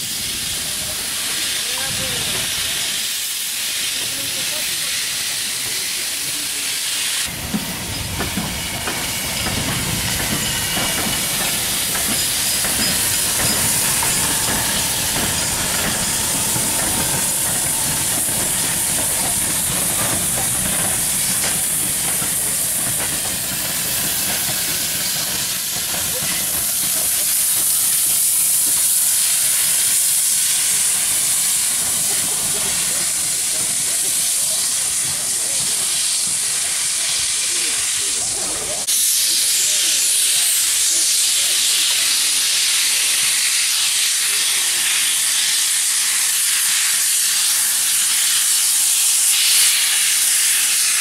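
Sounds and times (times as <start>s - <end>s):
steam locomotive hissing steam: 0.0s - 51.0s.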